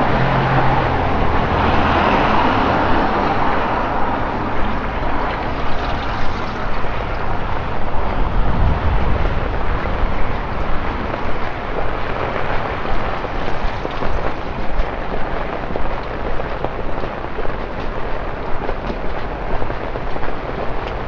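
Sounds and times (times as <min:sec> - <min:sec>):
heavy rain: 0:00.0 - 0:21.0
tyres hissing on wet road: 0:00.0 - 0:21.0.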